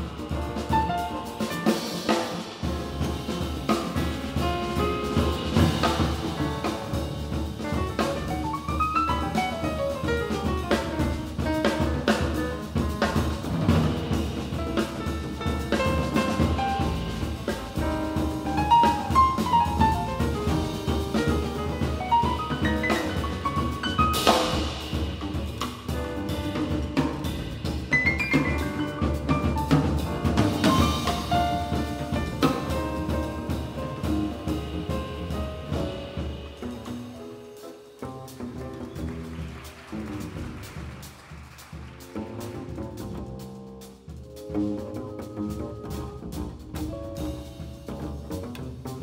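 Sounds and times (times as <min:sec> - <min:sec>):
double bass: 0:00.0 - 0:49.0
drum kit: 0:00.0 - 0:49.0.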